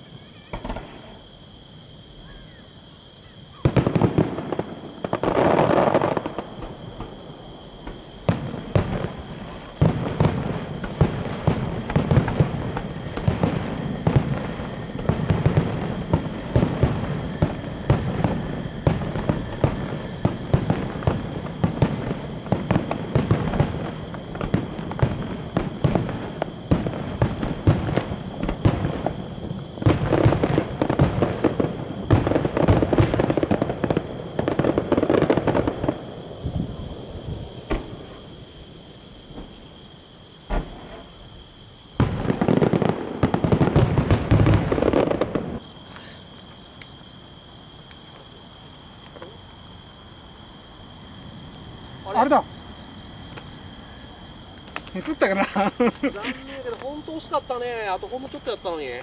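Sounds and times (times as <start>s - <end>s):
fireworks pops and bangs: 0.0s - 1.5s, 3.3s - 39.8s, 40.4s - 47.0s, 47.8s - 49.7s, 51.3s - 59.0s.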